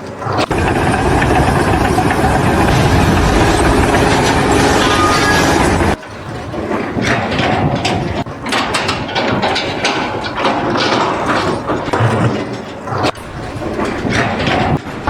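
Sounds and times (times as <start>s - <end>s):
mechanical clicking and clattering: 0.1s - 15.0s.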